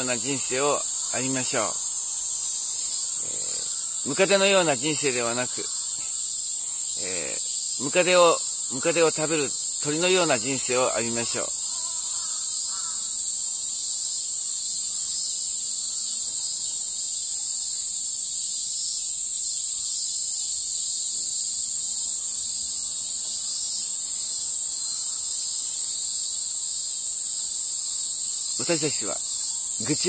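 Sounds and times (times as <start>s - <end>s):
high-pitched insects singing: 0.0s - 30.0s
lower insect layer: 0.0s - 30.0s.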